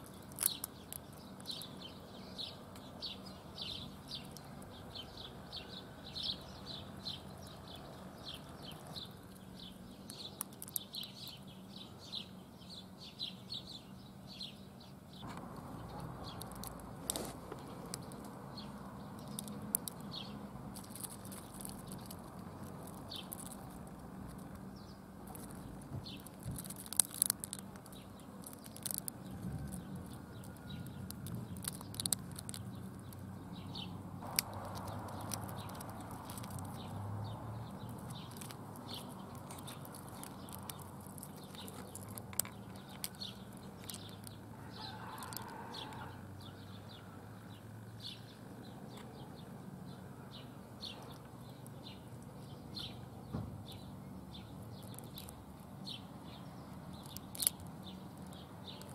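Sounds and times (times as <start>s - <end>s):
birds chirping: 0.0s - 58.9s.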